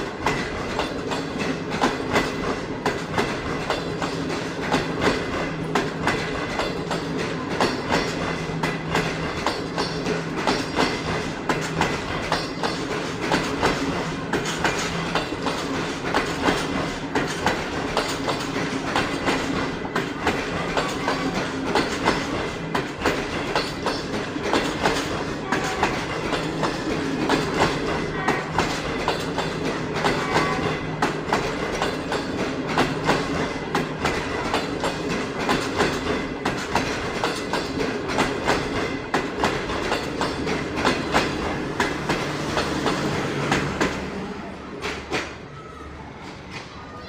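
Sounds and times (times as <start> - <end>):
wheels clicking over rail joints: 0.0 - 45.5
train wheels rumbling on rails: 0.0 - 47.0.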